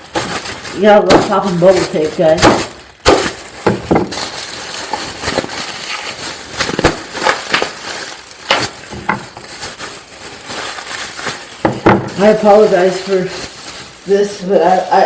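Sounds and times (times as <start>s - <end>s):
bubble wrap popping: 0.0s - 15.0s
plastic crinkling: 0.0s - 15.0s.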